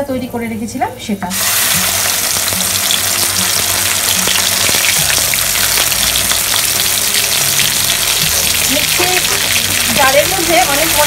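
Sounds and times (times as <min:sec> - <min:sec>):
paste sizzling in hot oil: 0:01.3 - 0:11.0.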